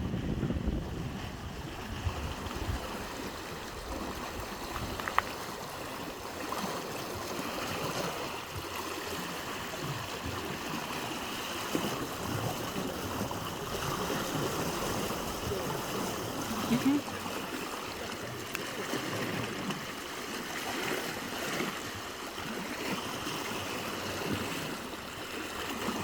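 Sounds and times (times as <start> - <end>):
floodwater flowing: 0.0 - 26.0.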